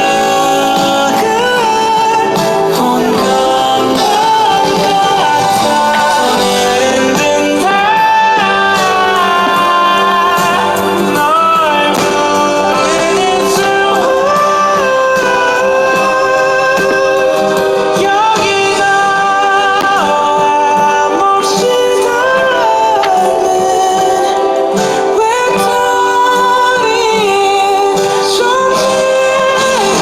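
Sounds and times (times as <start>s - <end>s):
song with sung melody: 0.0s - 30.0s.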